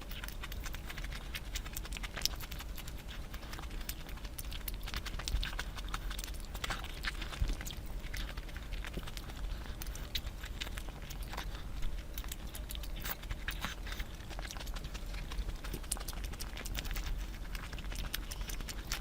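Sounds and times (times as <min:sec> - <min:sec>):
wet chewing and lip smacks: 0:00.0 - 0:19.0.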